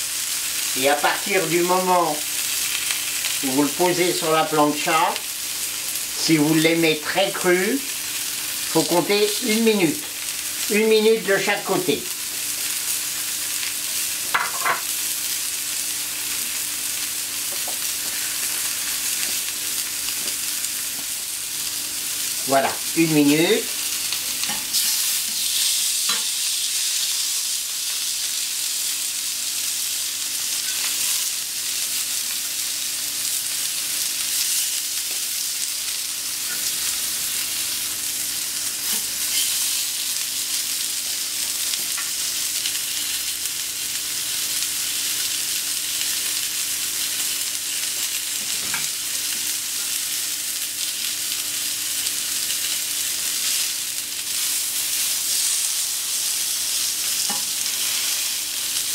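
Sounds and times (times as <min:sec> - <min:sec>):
fish steaks sizzling on hot plate: 0:00.0 - 0:58.9.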